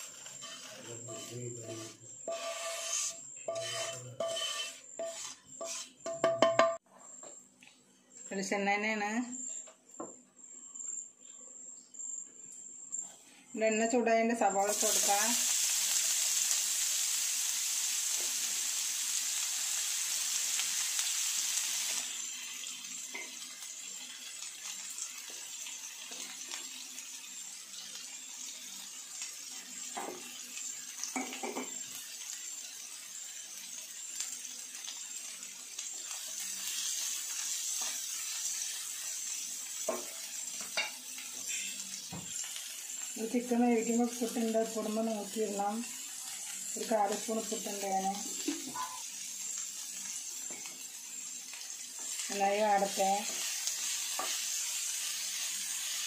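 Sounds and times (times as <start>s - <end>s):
onions sizzling in a frying pan: 0.0s - 6.8s, 13.6s - 56.0s.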